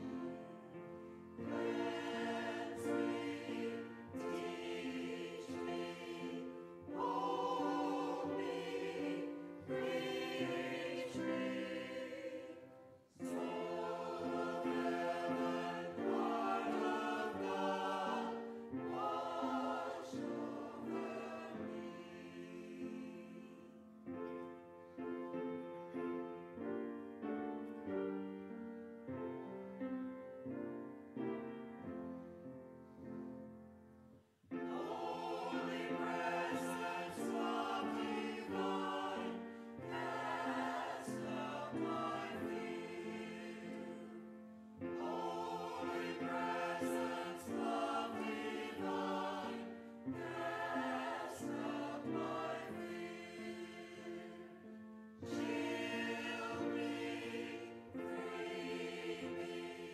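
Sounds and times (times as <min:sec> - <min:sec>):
choir singing in harmony: 0:00.0 - 0:29.6, 0:34.5 - 0:59.9.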